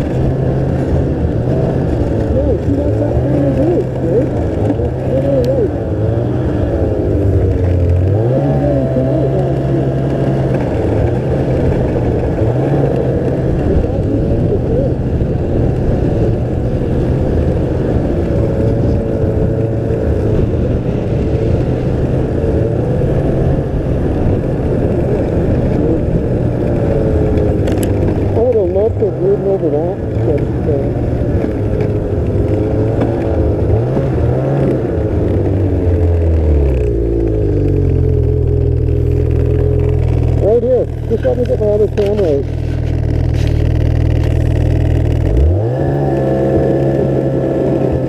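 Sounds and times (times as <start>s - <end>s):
constant rushing noise: 0.0s - 48.0s
snowmobile engine running: 0.0s - 48.0s.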